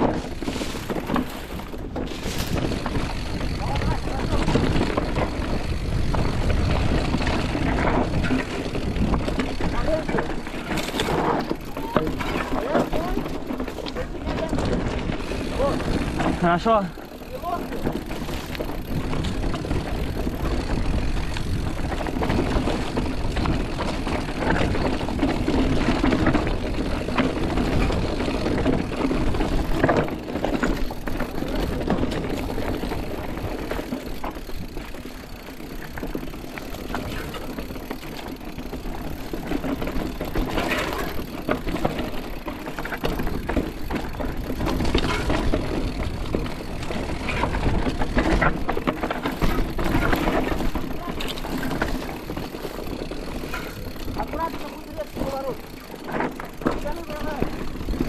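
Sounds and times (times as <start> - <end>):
bike frame rattling: 0.0 - 58.0
wind and tyre noise: 0.0 - 58.0.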